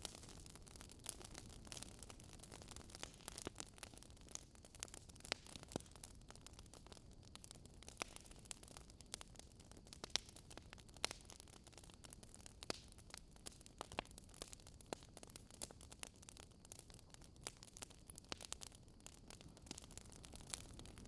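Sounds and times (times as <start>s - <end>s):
faint steady hiss: 0.0s - 21.0s
wood fire crackling: 0.0s - 21.0s.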